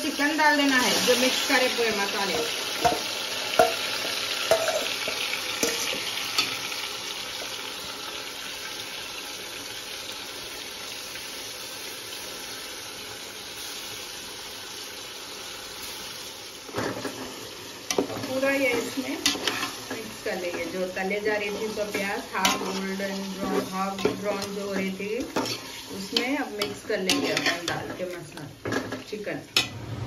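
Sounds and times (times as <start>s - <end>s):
chicken sizzling in hot oil: 0.0s - 29.7s.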